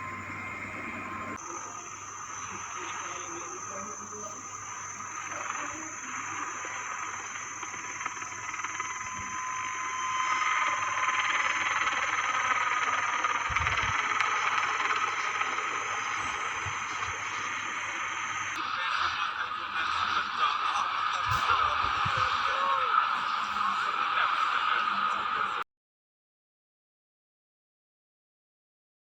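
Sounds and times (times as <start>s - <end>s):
helicopter turbine whine: 0.0s - 25.6s.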